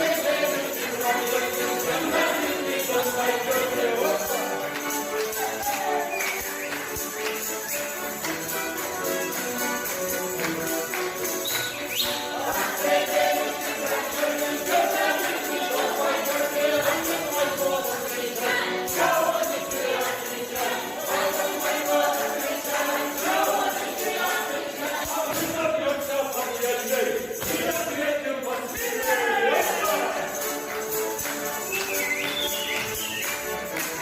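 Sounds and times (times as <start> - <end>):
group of voices singing: 0.0 - 34.0
jingling bells: 0.0 - 34.0
tambourine: 0.0 - 34.0.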